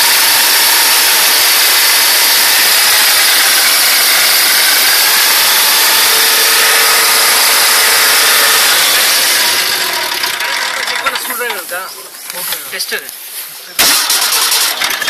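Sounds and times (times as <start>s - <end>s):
generator engine running: 0.0s - 11.9s, 13.8s - 15.0s.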